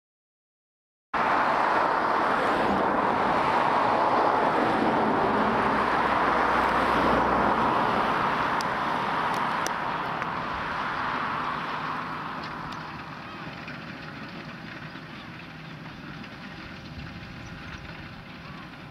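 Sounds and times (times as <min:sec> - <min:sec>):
tractor engine droning under load: 0:01.2 - 0:18.9.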